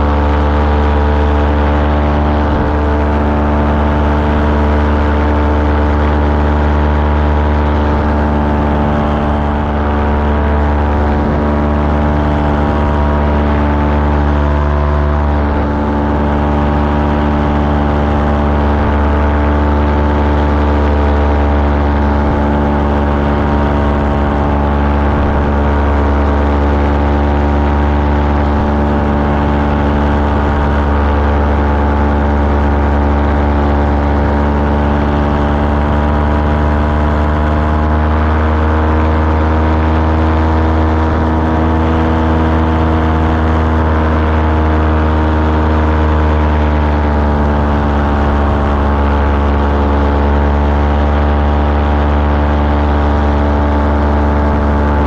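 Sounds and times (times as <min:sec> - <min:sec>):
small aircraft engine and propeller: 0:00.0 - 0:55.0.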